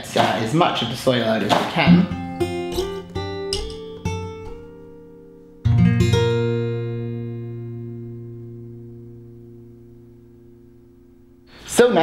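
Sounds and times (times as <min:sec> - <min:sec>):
guitar chord ringing: 0:01.8 - 0:12.0.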